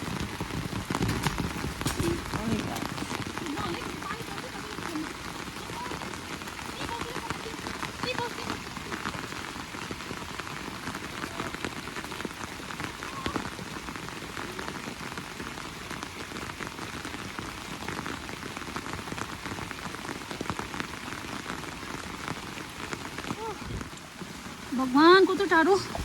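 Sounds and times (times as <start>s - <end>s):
rain falling: 0.0s - 26.0s
sharp raindrop hits: 0.0s - 26.0s.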